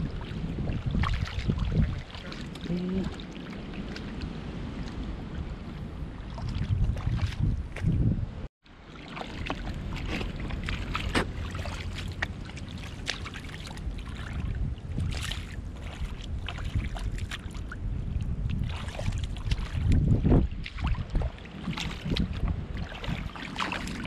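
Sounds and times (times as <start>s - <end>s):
wind on microphone: 0.0s - 8.5s, 9.2s - 24.0s
splashing in shallow water and mud: 0.0s - 24.0s.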